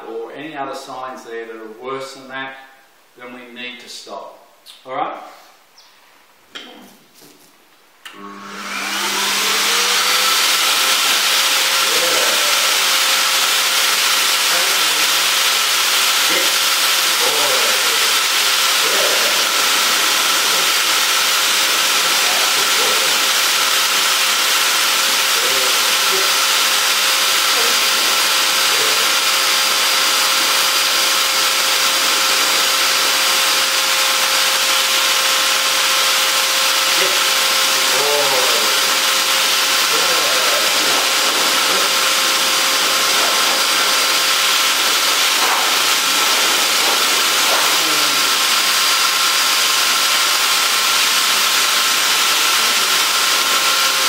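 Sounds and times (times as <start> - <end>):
pet blower motor whining: 8.0 - 54.0.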